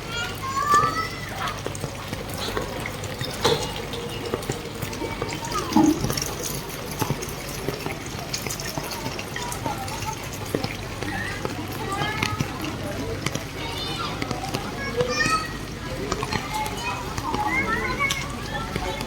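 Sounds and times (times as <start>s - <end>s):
floodwater splashing and running: 0.0s - 19.0s.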